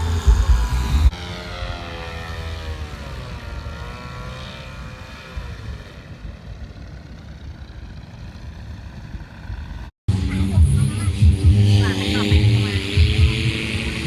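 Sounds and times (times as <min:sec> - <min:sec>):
paramotor engine droning: 0:00.0 - 0:14.0.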